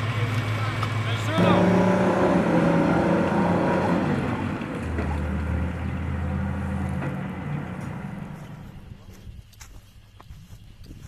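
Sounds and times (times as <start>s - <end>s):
engine humming: 0.0s - 9.5s
deep low hum: 0.0s - 11.0s.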